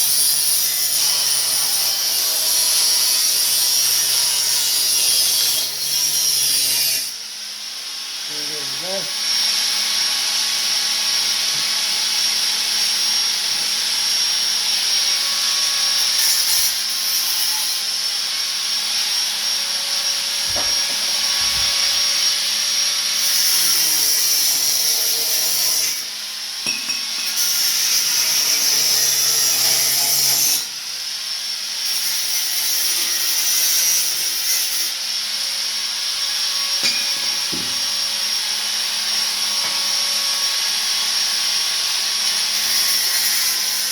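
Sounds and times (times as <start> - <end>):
angle grinder cutting steel: 0.0 - 43.9.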